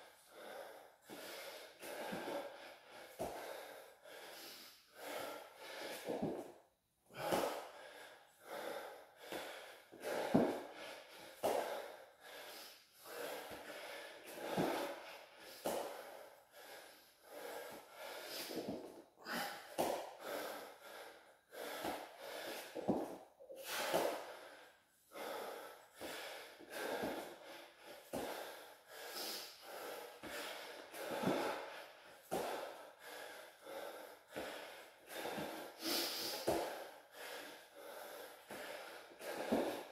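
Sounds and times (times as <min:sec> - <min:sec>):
man breathing hard: 0:00.0 - 0:39.9.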